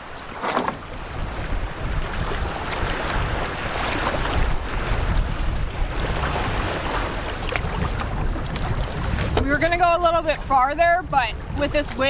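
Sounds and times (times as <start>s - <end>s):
water washing around canoe: 0.0s - 12.0s
wind buffeting microphone: 0.0s - 12.0s.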